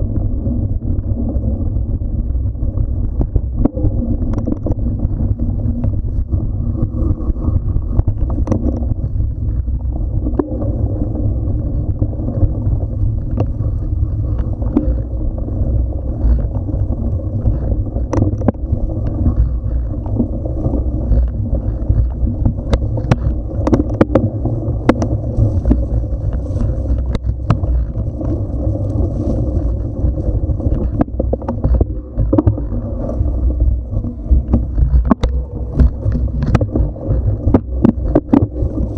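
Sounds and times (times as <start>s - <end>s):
bike rattling over bumps: 0.0s - 38.9s
tyres rumbling on dirt trail: 0.0s - 38.9s
wind on microphone: 0.0s - 38.9s.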